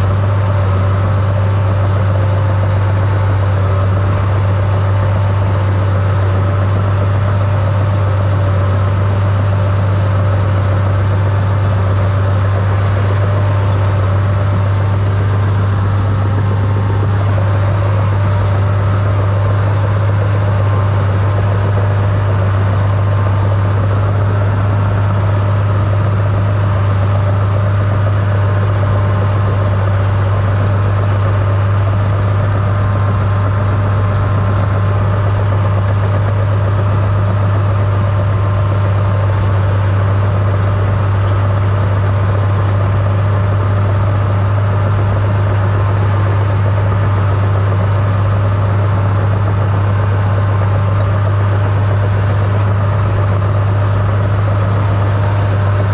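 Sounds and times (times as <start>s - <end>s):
dozer engine running: 0.0s - 55.9s.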